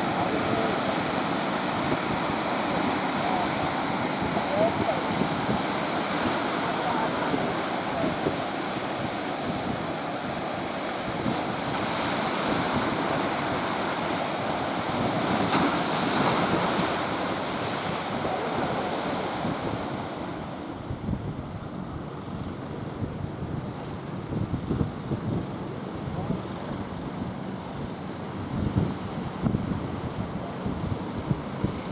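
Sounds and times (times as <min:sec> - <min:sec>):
ocean waves breaking: 0:00.0 - 0:31.9
wind buffeting microphone: 0:00.0 - 0:31.9.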